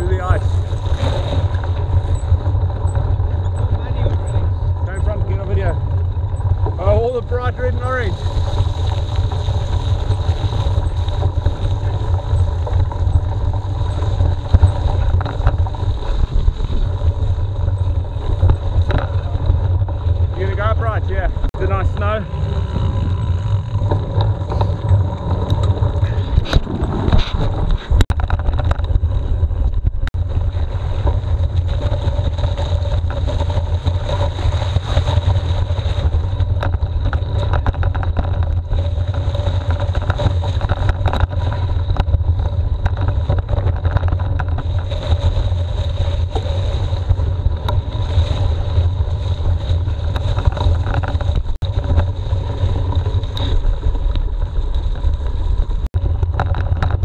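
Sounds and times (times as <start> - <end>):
bike clicks and rattles: 0.0 - 57.0
wind buffeting microphone: 0.0 - 57.0.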